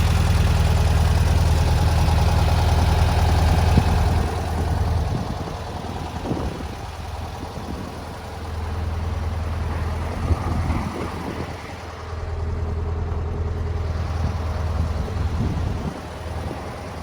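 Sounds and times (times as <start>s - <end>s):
car engine running with low hum: 0.0s - 17.0s.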